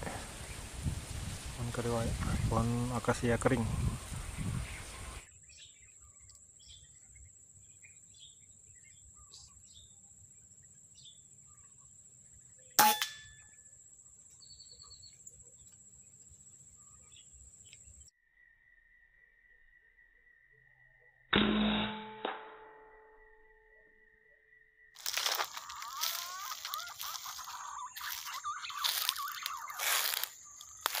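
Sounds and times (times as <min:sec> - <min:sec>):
soft bird chirps: 0:01.9 - 0:21.3, 0:23.2 - 0:31.0.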